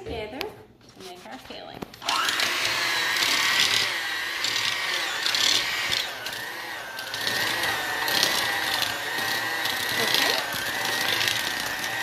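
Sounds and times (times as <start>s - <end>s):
electric hand mixer whining: 2.0s - 12.0s.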